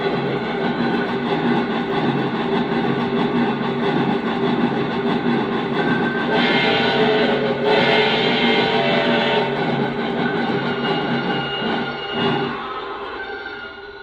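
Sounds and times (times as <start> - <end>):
steam locomotive running sounds: 0.0 - 14.0.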